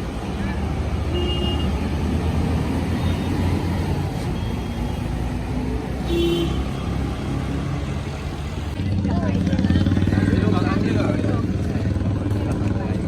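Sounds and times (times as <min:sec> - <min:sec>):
bus engine rumble and road noise: 0:00.0 - 0:13.0.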